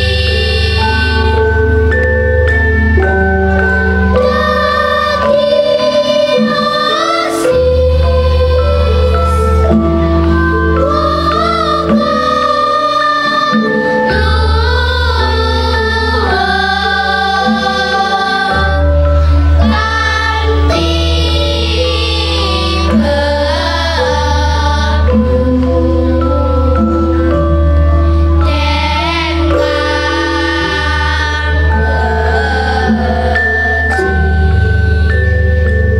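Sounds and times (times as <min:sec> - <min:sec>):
children's choir singing: 0:00.0 - 0:35.9
instrumental chords with bass: 0:00.0 - 0:35.9.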